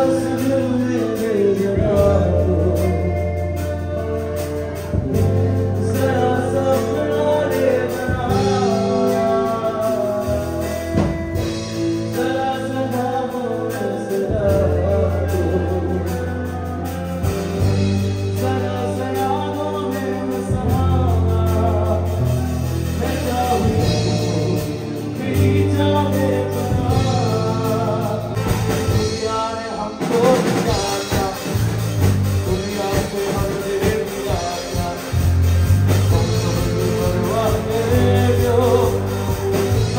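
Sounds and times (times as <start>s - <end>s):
electric bass guitar: 0.0s - 39.9s
keyboard: 0.0s - 39.9s
man singing into a microphone: 0.0s - 39.9s.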